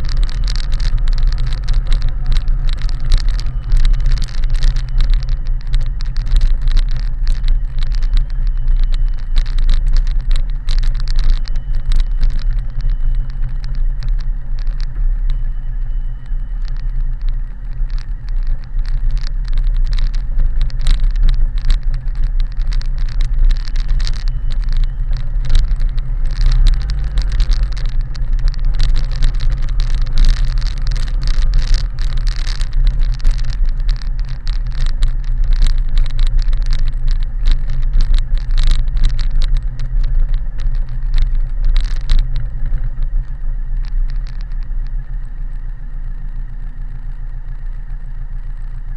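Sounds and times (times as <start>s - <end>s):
motorcycle engine running: 0.0s - 48.9s
rattles over cobbles: 0.0s - 48.9s.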